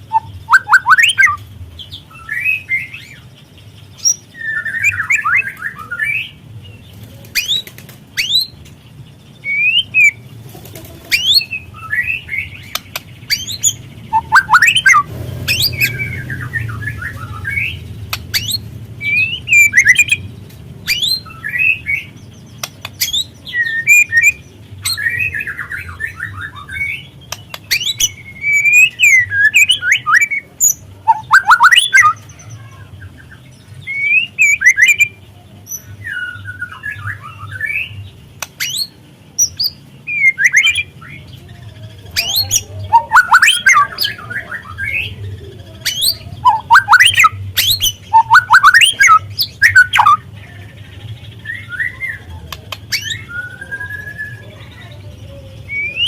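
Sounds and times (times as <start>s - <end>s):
bird singing chirps and trills: 0.0s - 10.4s, 11.0s - 56.0s.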